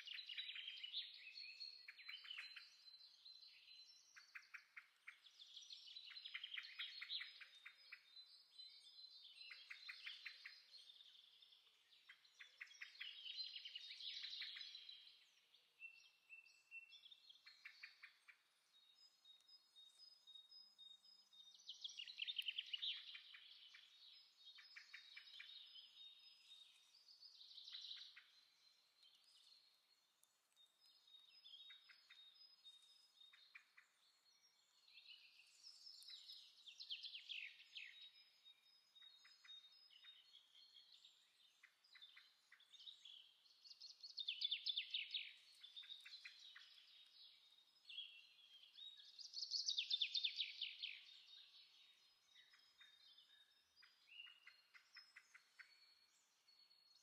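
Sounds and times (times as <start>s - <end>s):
faint birdsong with trills: 0.0s - 57.0s.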